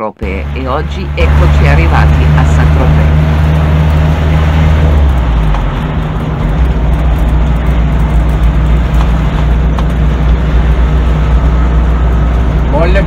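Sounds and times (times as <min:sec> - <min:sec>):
road and tyre noise: 0:00.0 - 0:13.0
van engine drone: 0:00.0 - 0:13.0.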